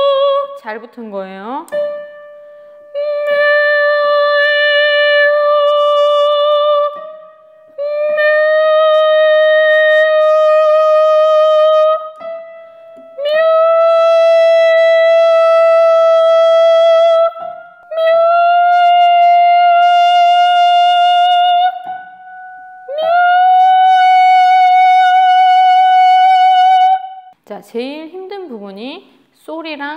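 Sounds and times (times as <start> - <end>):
woman singing held notes with vibrato: 0.0 - 27.4.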